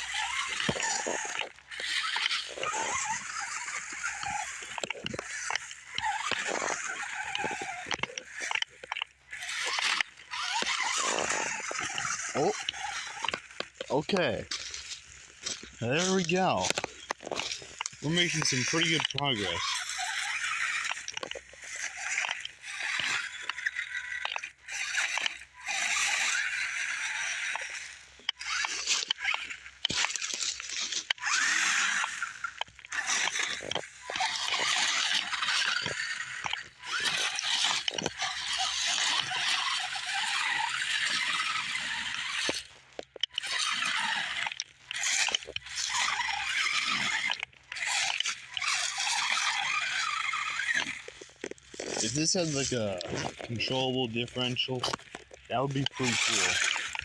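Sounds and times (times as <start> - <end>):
electric motor and gears whirring: 0.0 - 57.0
tyres scraping on rock: 0.0 - 57.0.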